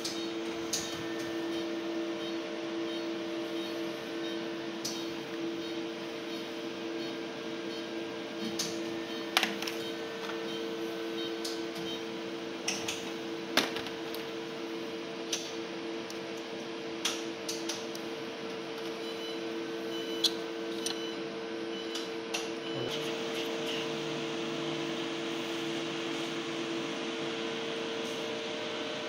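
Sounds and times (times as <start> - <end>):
electrical hum of equipment: 0.0 - 29.0.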